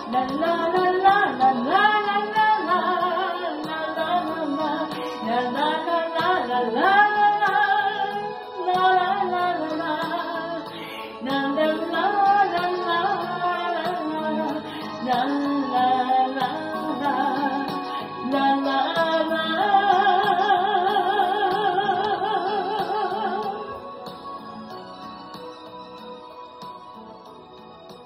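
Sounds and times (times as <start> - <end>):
person singing: 0.0 - 24.1
karaoke backing track: 0.0 - 28.0.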